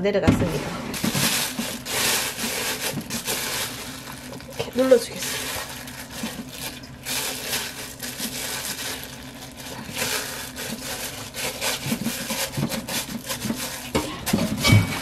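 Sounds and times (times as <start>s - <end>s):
plastic bag crinkling: 0.9s - 15.0s.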